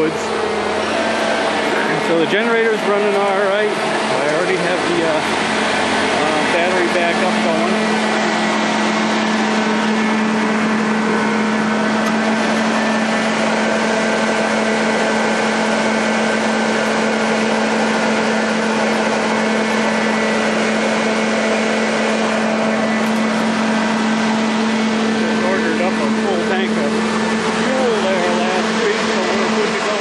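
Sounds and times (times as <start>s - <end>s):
generator engine humming: 0.0s - 30.0s.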